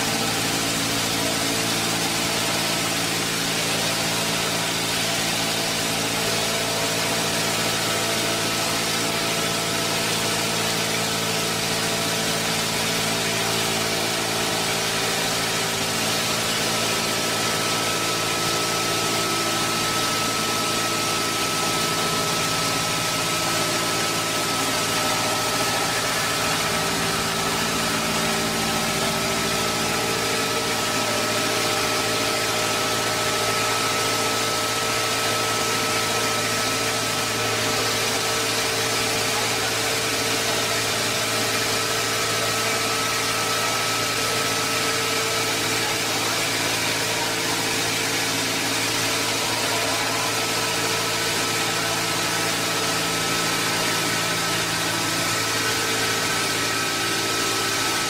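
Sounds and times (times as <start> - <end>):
lathe shaving log: 0.0 - 58.0.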